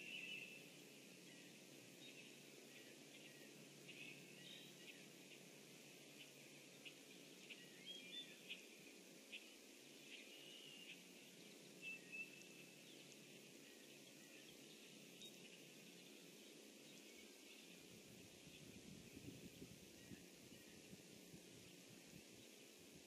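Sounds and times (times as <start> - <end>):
faint bird chirps: 0.0 - 22.8
outdoor background hiss: 0.0 - 23.0.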